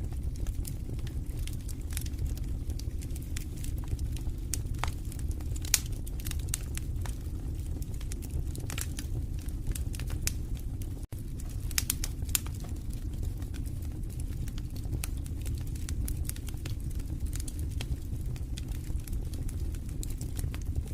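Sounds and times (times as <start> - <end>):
low rumble of flame: 0.0 - 20.9
wood fire crackling and popping: 0.0 - 20.9.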